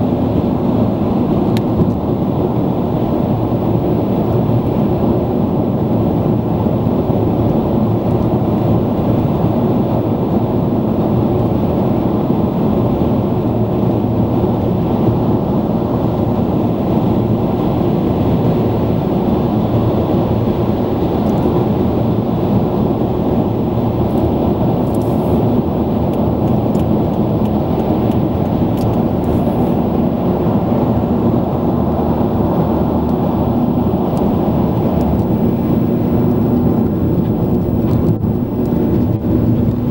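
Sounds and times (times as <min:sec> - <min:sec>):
car driving through tunnel: 0:00.0 - 0:39.9.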